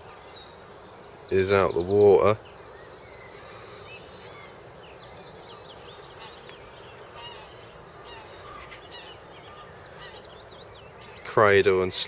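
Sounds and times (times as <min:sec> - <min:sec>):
low outdoor background hiss: 0:00.0 - 0:12.0
small birds chirping: 0:00.0 - 0:12.0.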